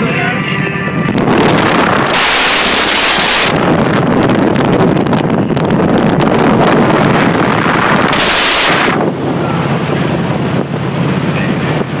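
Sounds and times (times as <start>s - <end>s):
motorcycle engine humming: 0.0s - 12.0s
wind buffeting microphone: 0.0s - 12.0s.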